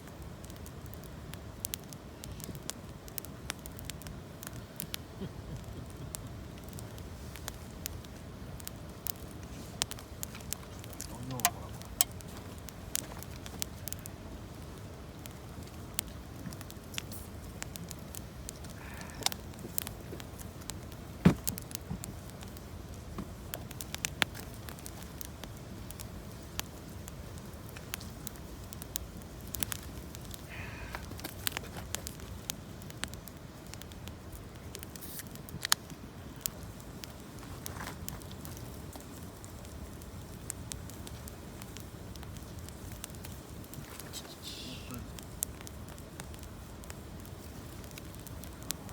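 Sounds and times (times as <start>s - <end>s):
campfire crackling and popping: 0.0s - 48.9s.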